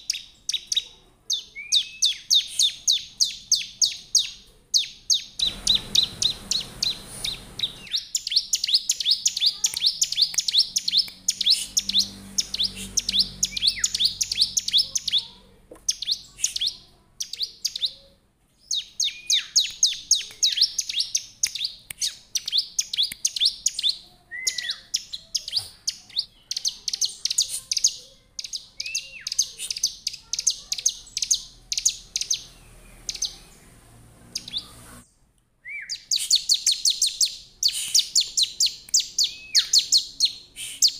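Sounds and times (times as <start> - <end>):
bird chirping song: 0.0 - 40.9.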